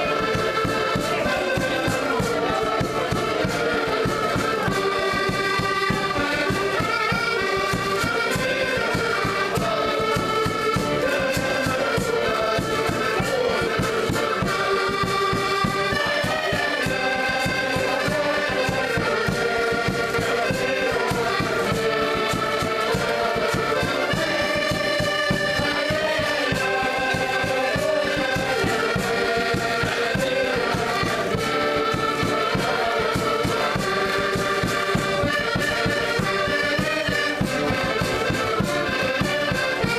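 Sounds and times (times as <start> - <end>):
accordions playing folk tune: 0.0 - 39.9.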